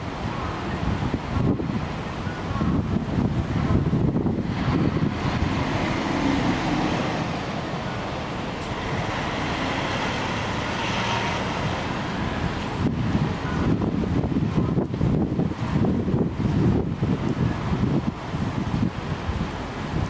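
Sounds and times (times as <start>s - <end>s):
city traffic noise: 0.0s - 20.0s
wind buffeting microphone: 0.0s - 20.0s.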